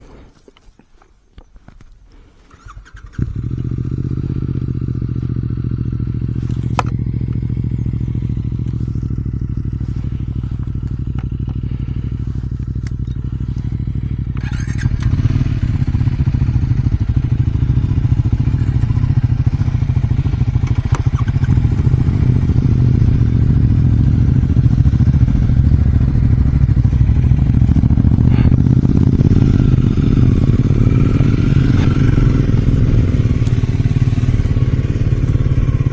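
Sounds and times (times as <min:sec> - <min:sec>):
motorcycle engine exhaust: 0:02.5 - 0:35.9.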